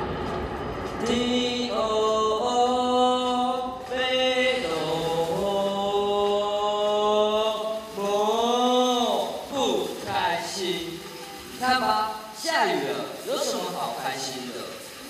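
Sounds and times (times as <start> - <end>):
slow chant-like singing: 0.0 - 12.9.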